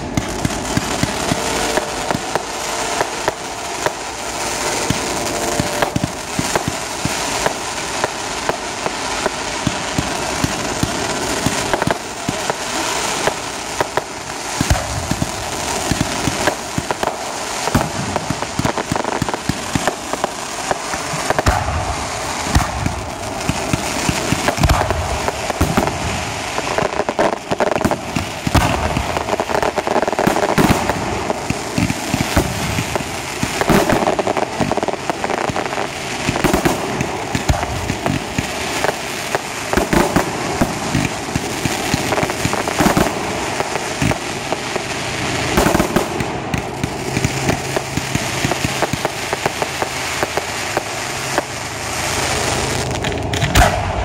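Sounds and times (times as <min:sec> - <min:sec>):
fireworks crackling and popping: 0:00.0 - 0:54.0
sharp firework bangs: 0:00.0 - 0:54.0.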